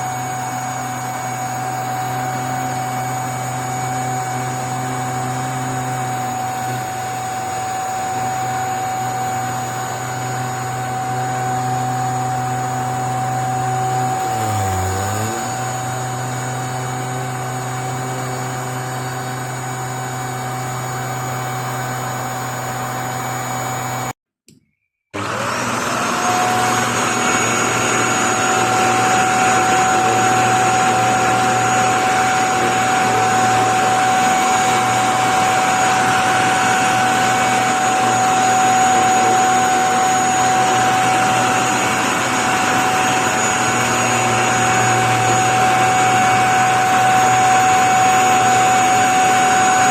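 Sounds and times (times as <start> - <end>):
vacuum motor whining: 0.0 - 24.2, 25.2 - 49.9.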